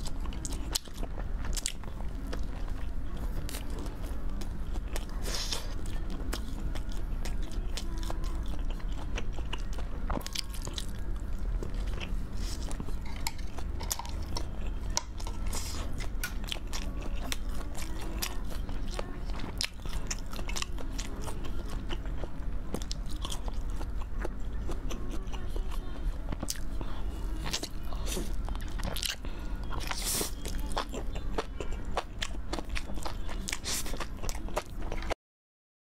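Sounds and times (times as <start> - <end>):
biting and chewing food: 0.0 - 35.2
steady low hum: 0.0 - 35.2.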